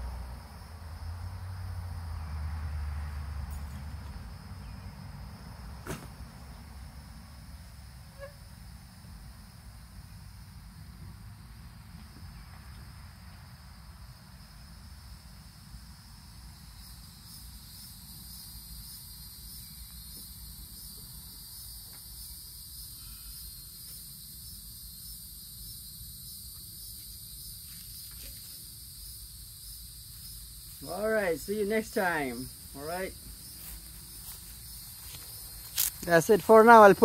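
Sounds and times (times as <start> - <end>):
insect chorus trilling: 0.0 - 37.0.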